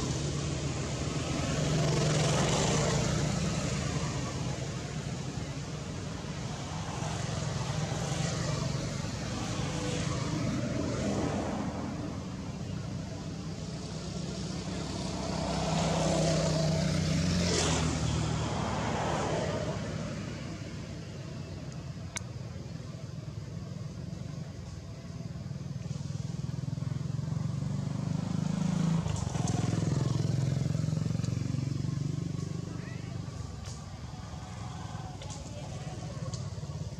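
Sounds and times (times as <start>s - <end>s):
car engines passing: 0.0s - 36.9s
motorbike engines passing: 0.0s - 36.9s.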